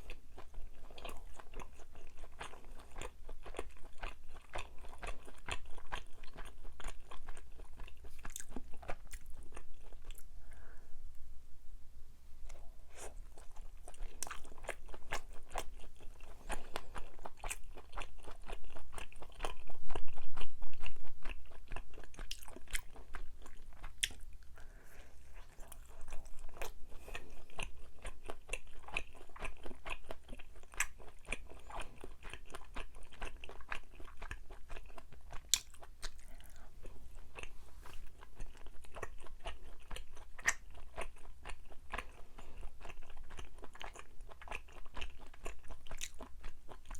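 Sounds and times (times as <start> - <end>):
close-miked chewing: 0.0 - 10.7, 12.4 - 46.9.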